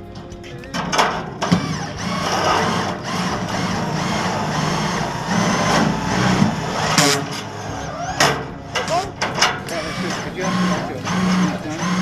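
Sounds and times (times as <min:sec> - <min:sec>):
cordless drill driving screw: 0:01.4 - 0:09.1, 0:09.7 - 0:12.0.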